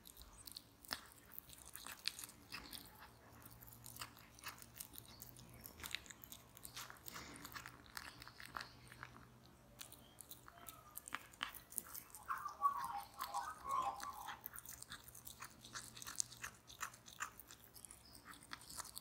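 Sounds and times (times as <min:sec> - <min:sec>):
cat chewing: 0:00.0 - 0:12.8, 0:14.1 - 0:19.0.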